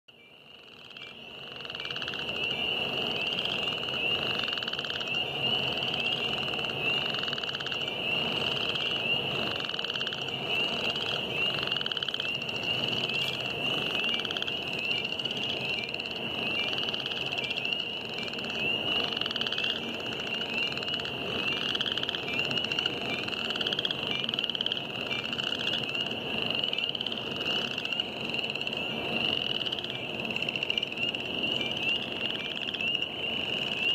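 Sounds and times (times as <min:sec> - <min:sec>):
frogs peeping: 0:00.1 - 0:33.9
rising frog trills: 0:00.5 - 0:33.9.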